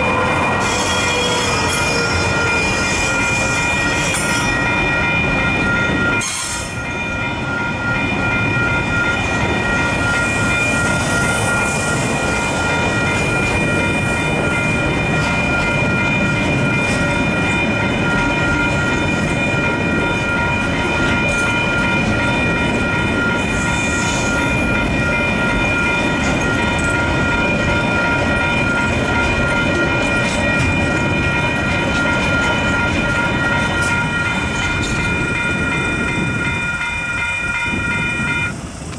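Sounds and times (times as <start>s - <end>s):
high-pitched ringing tone: 0.0s - 38.8s
train wheels rumbling and rattling: 0.0s - 38.9s
wheels clacking on rail: 0.0s - 38.9s.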